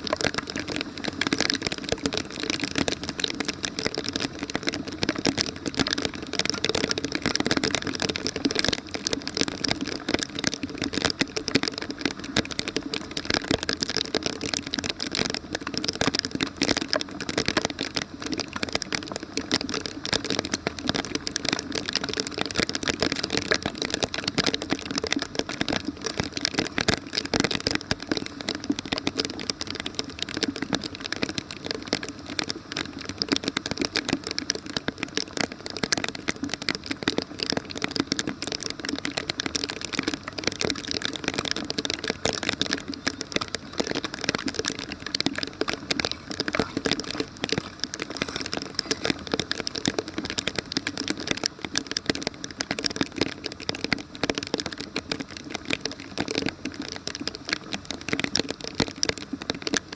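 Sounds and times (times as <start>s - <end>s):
heavy rain on street: 0.0s - 59.9s.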